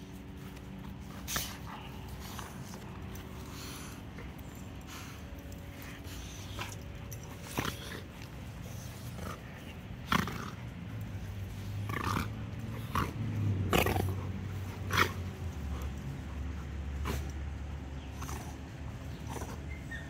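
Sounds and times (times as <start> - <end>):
dogs growling: 0.0 - 20.0.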